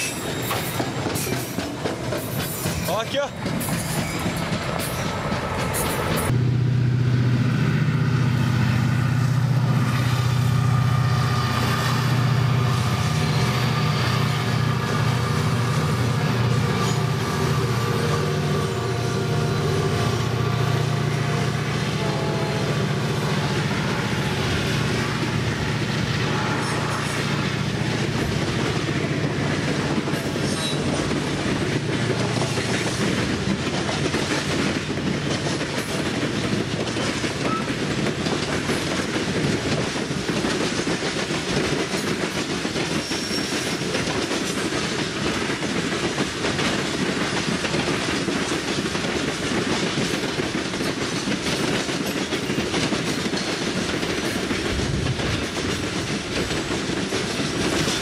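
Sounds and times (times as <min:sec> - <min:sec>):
train wagons clickety-clack on rails: 0:00.0 - 0:06.4, 0:07.8 - 0:58.0
locomotive engines running: 0:00.0 - 0:58.0.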